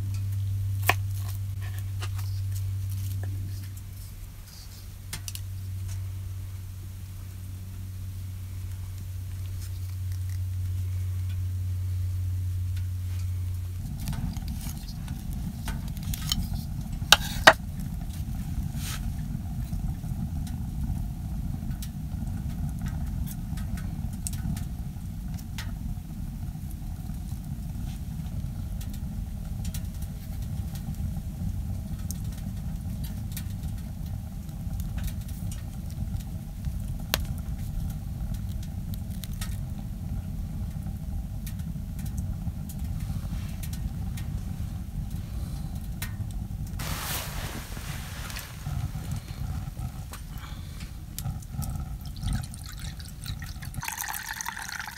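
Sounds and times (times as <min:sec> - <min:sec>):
fire crackling and popping: 0:00.0 - 0:54.9
wood stove fire rumbling: 0:00.0 - 0:54.9.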